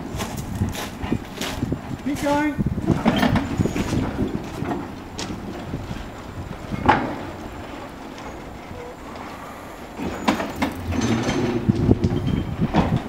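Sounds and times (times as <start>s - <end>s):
electric tram moving on track: 0.0s - 13.0s
knocks and rattles: 0.7s - 8.9s, 10.0s - 13.0s.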